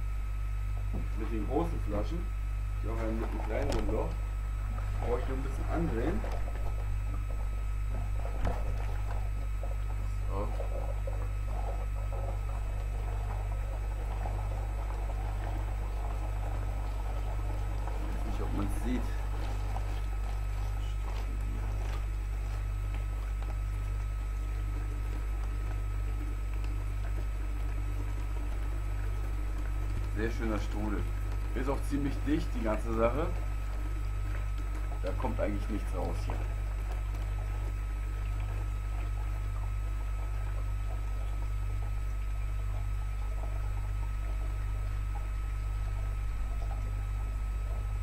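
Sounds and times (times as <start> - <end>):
steady low hum: 0.0 - 48.0
water swirling between bottles: 2.7 - 48.0.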